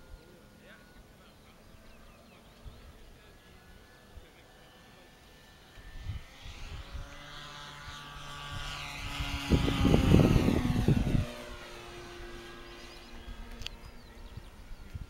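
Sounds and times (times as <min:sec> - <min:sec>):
low buffeting rumble: 0:00.0 - 0:15.0
model plane motor whine: 0:00.0 - 0:15.0.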